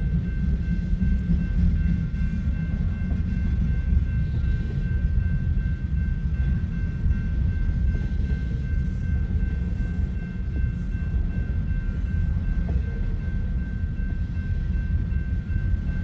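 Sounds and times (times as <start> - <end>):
freight train rolling on rails: 0.0 - 16.0.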